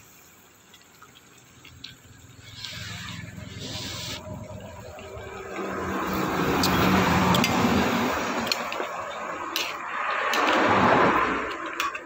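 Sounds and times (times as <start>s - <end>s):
soup boiling with rushing hiss: 0.0s - 12.0s.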